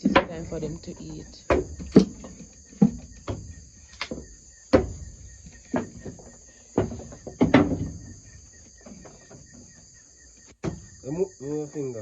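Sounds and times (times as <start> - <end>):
hammer knocking on wooden boards: 0.0 - 9.8, 10.6 - 11.0
crickets chirring: 0.0 - 12.0.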